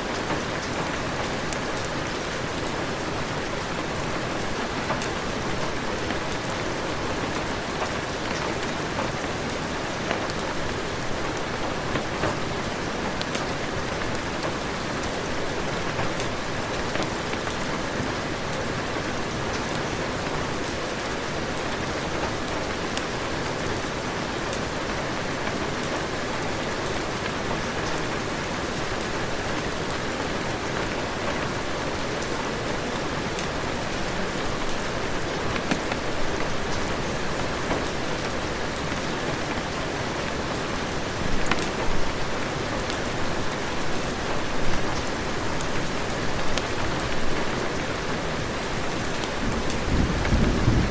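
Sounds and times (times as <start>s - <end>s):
heavy rain patter: 0.0s - 50.9s.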